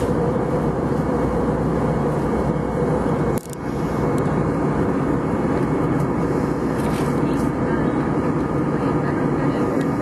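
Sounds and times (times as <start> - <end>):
steady low noise: 0.0 - 10.0.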